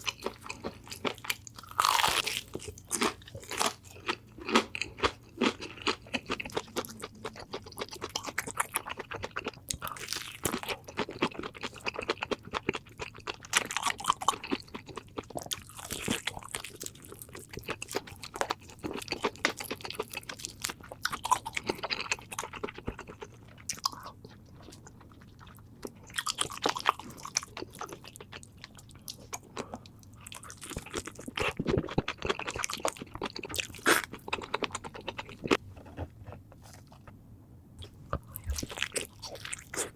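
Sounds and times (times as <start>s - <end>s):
person chewing crunchy food: 0.0s - 37.2s, 37.8s - 39.9s.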